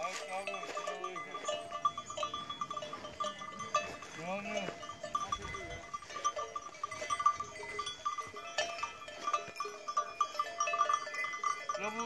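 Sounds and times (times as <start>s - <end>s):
livestock bells clinking: 0.0s - 12.0s.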